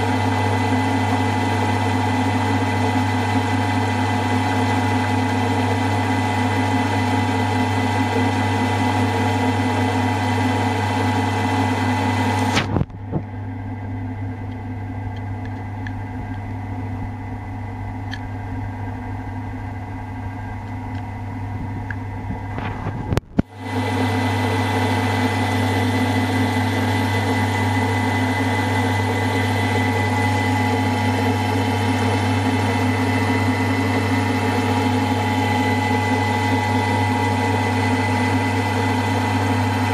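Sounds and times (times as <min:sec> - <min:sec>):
milling machine hum: 0:00.0 - 0:39.9.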